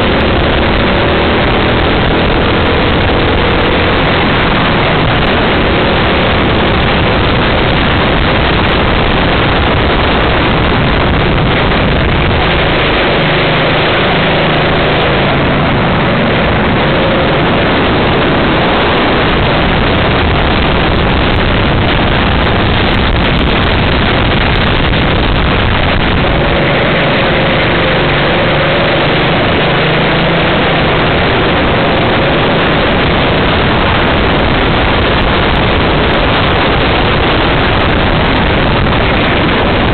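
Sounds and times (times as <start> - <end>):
kart engine running hard: 0.0 - 39.9
wind noise: 0.0 - 39.9.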